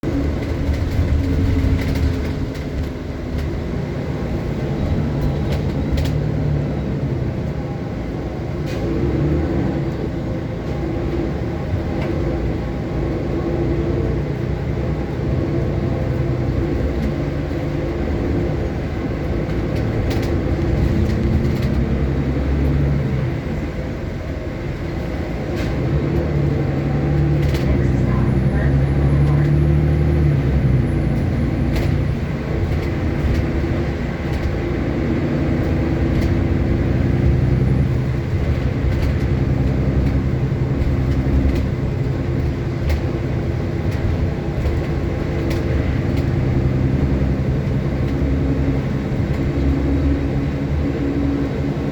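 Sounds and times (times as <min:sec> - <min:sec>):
bus engine drone: 0:00.0 - 0:51.9
road rumble: 0:00.0 - 0:51.9.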